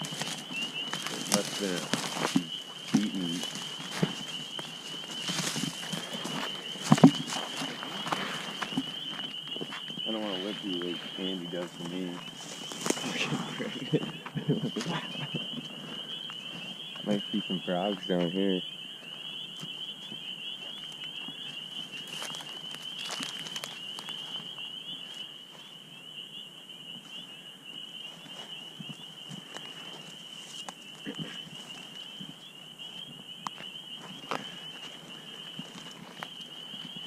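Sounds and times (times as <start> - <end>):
footsteps crunching over brush: 0.0 - 26.3, 26.9 - 37.0
night insects trilling: 0.0 - 37.0.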